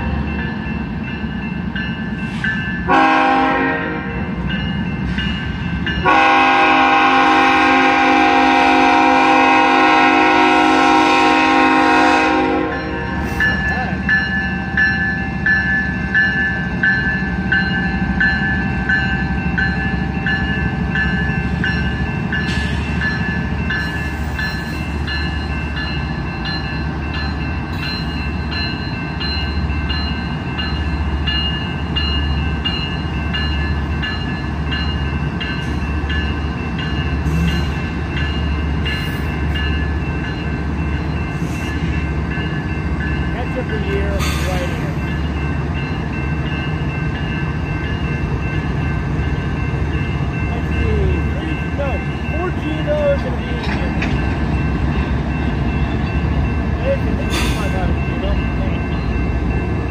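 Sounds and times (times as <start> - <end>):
crossing bell ringing: 0.0 - 59.9
diesel locomotives rumbling past: 0.0 - 59.9.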